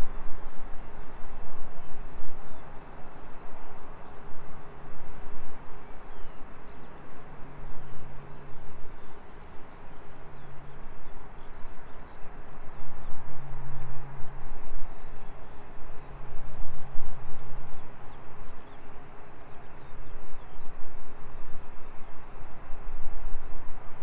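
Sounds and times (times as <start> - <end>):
low engine hum: 0.0 - 24.0.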